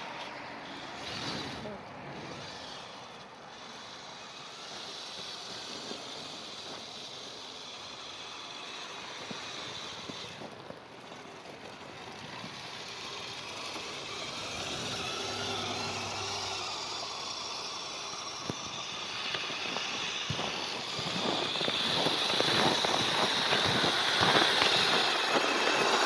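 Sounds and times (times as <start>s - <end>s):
toy vehicle motor whirring: 0.0s - 26.0s.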